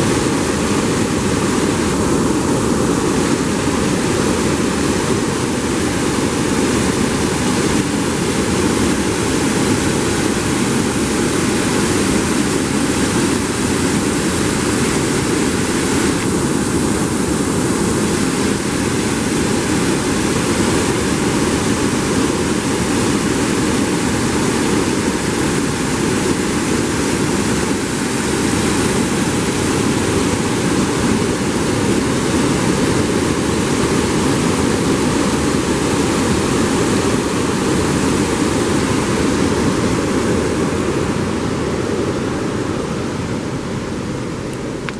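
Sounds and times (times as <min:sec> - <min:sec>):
water rushing over weir: 0:00.0 - 0:44.9.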